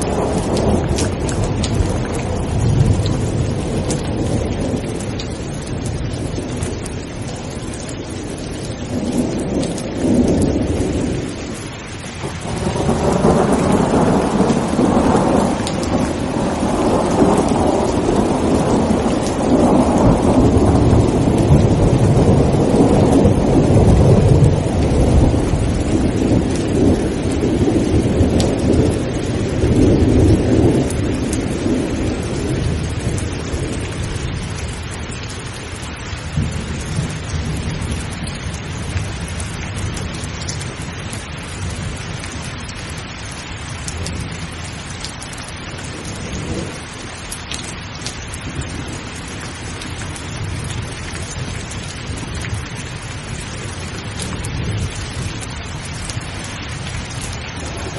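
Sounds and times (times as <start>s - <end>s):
rumble of thunder: 0.0s - 43.1s, 43.8s - 57.9s
rain falling: 0.0s - 57.9s.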